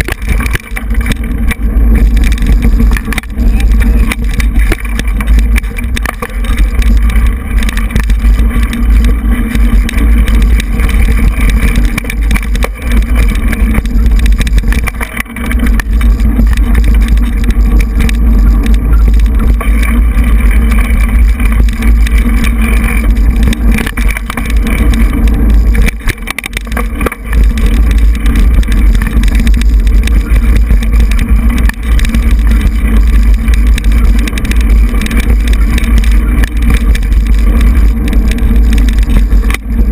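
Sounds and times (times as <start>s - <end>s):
low rumble of wind and vibration: 0.0s - 39.9s.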